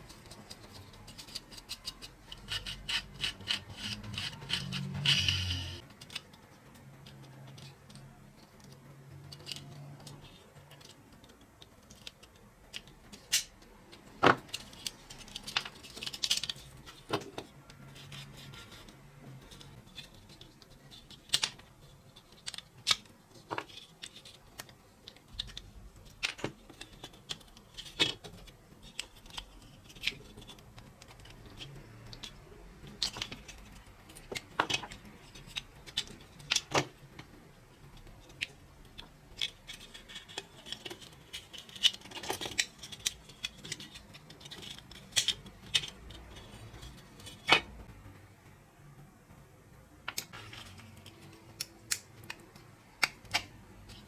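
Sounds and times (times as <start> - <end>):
metal parts and tools clicking: 0.0 - 47.8.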